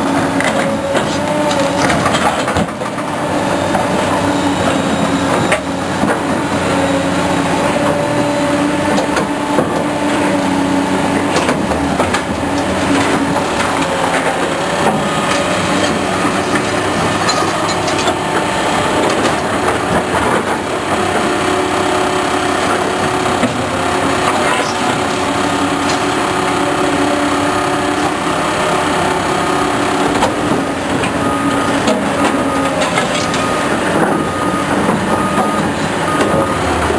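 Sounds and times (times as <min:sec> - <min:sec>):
diesel engine drone: 0:00.0 - 0:36.9
machinery knocks and clanks: 0:00.2 - 0:06.6, 0:08.8 - 0:21.3, 0:22.6 - 0:29.2, 0:31.8 - 0:36.5.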